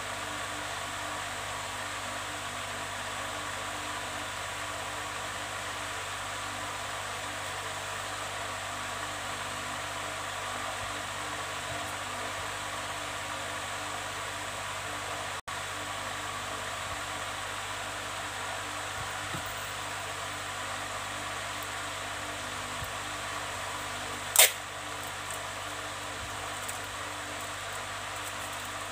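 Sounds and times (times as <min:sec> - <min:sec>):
fan motor whirring: 0:00.0 - 0:28.9.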